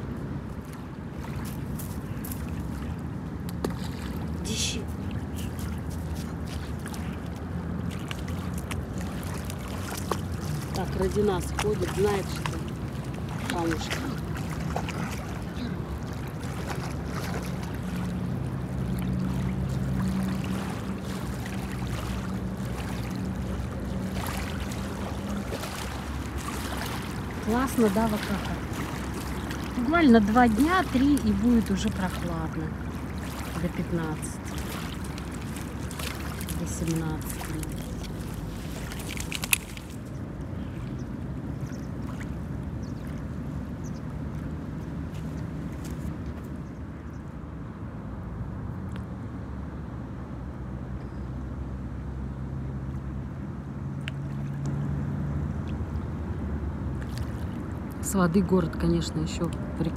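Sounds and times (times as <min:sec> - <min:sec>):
motorboat engine droning: 0:00.0 - 0:59.9
water noise: 0:00.0 - 0:59.9.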